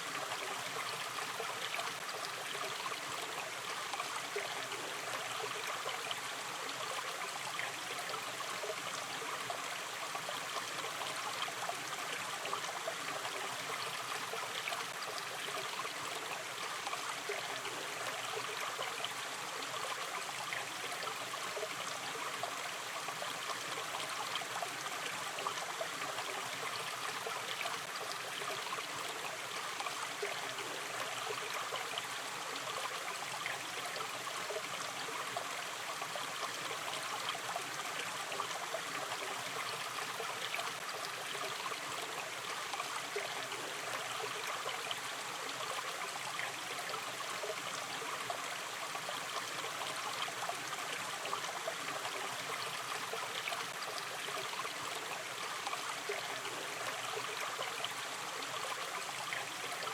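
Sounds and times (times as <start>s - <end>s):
stream babbling and trickling: 0.0s - 59.9s.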